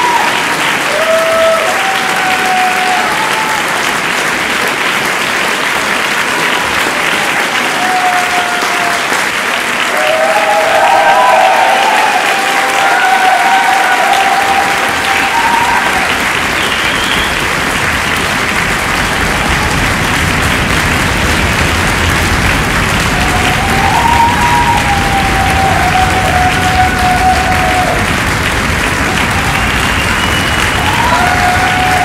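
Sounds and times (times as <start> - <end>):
audience applauding: 0.0 - 32.0
calls from the crowd: 0.0 - 32.0.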